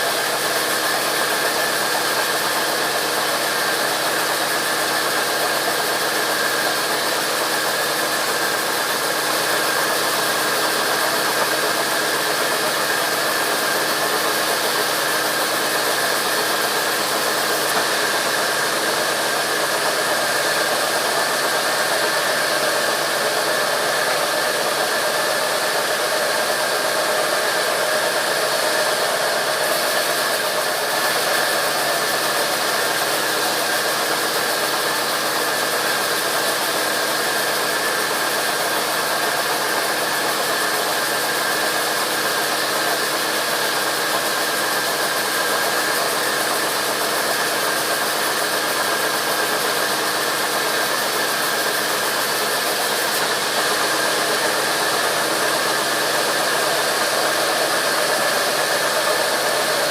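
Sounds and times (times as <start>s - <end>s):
high machine whine: 0.0s - 59.9s
sawmill machinery running: 0.0s - 59.9s.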